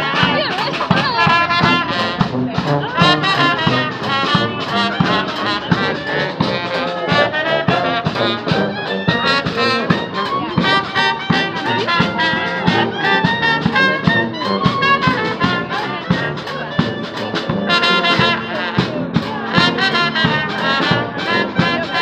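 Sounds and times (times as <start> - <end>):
bass drum beat: 0.0 - 22.0
brass band playing: 0.0 - 22.0.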